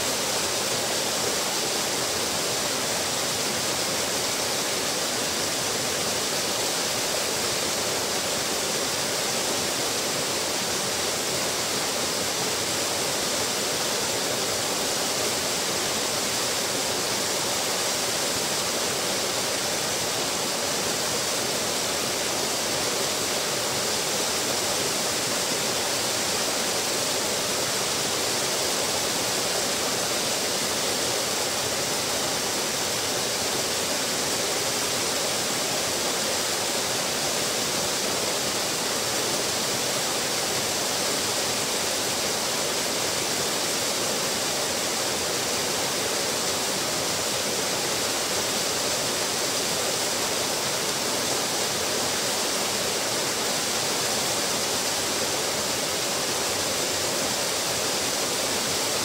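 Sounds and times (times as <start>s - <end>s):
waterfall splashing into pool: 0.0s - 59.0s.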